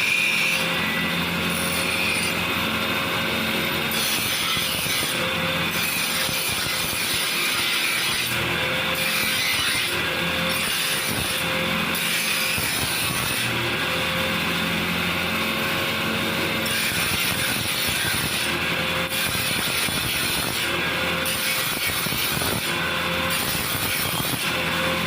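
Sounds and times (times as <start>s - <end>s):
mechanical workshop noise: 0.0s - 25.0s.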